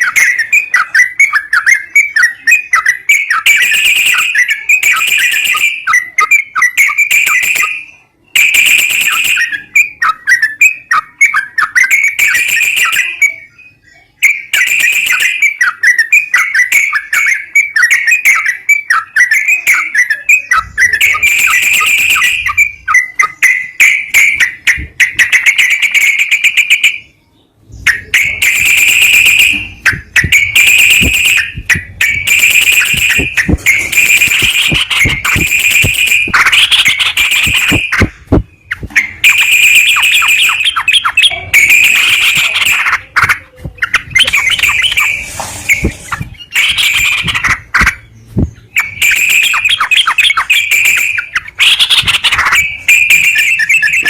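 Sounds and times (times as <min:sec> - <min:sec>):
recorded bulbul song: 0:00.0 - 0:54.0.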